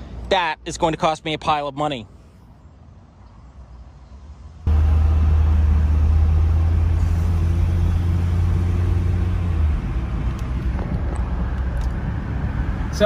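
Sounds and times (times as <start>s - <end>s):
road and engine drone: 0.0s - 13.0s.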